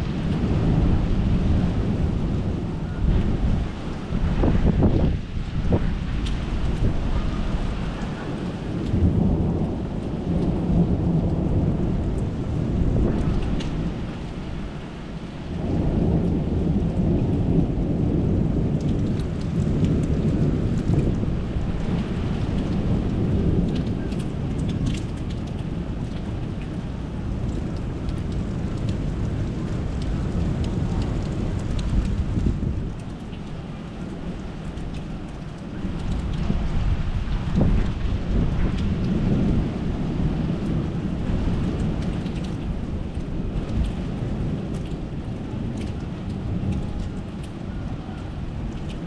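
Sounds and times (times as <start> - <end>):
steady rain falling: 0.0 - 49.0
thunder rumbling: 0.0 - 49.0.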